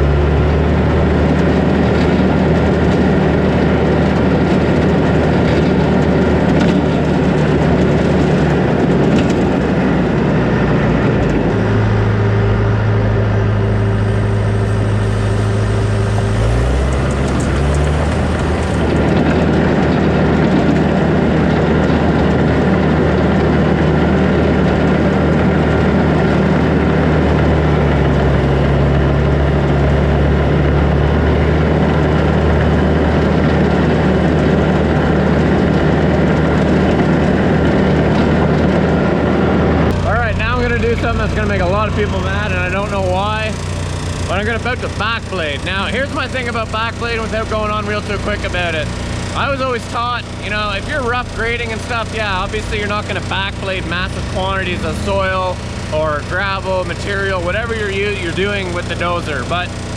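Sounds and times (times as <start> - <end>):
dozer diesel engine running: 0.0 - 59.9.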